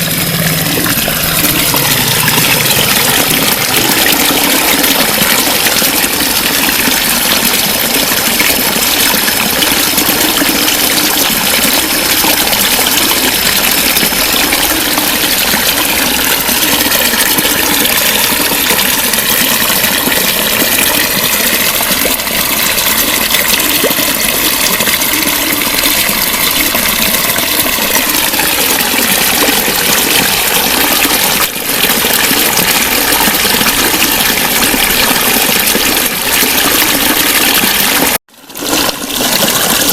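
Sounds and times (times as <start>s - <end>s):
water flowing and gurgling: 0.0s - 39.9s.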